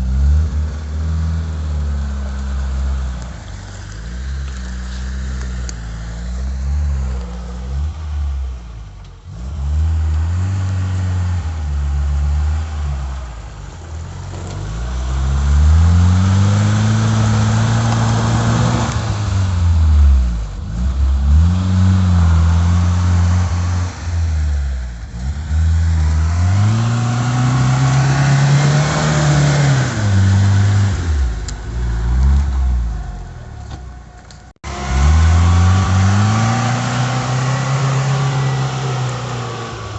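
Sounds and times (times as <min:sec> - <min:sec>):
petrol engine revving: 0:00.0 - 0:39.9.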